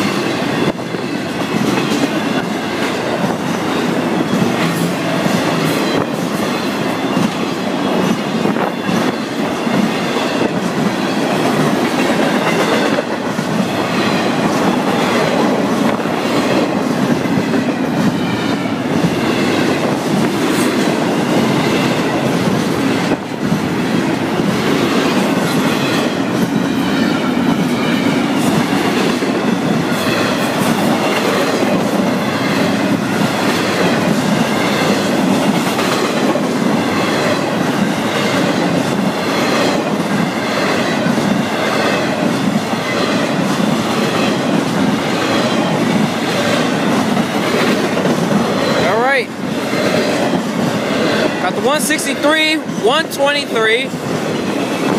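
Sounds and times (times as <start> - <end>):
wheels clacking over rail joints: 0.0 - 51.7
rumble of train wheels: 0.0 - 54.9.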